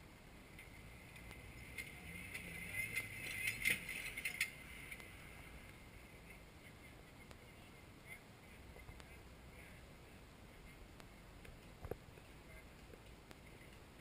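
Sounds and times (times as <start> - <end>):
engine rumbling at low speed: 0.0 - 14.0.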